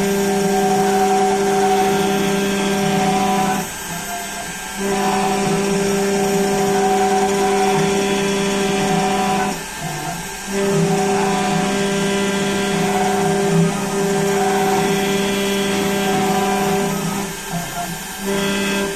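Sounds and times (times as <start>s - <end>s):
engraving machine motor hum and whine: 0.0s - 18.9s.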